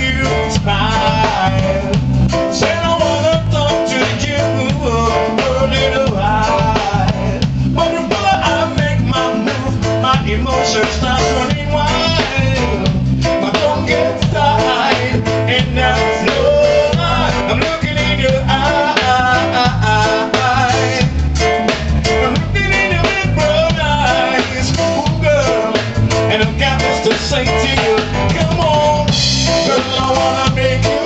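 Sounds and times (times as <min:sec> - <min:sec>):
drums: 0:00.0 - 0:31.0
keyboard: 0:00.0 - 0:31.0
man singing into a microphone: 0:00.0 - 0:31.0.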